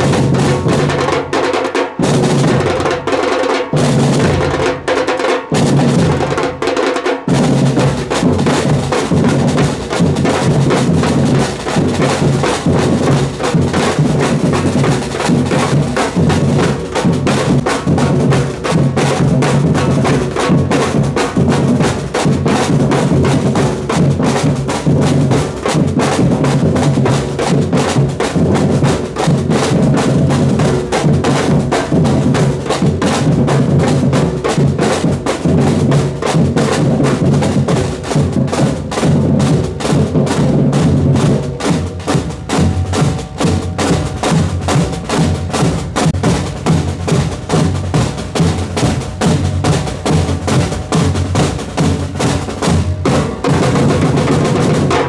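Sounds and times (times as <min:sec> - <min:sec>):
drum band playing: 0:00.0 - 0:55.0.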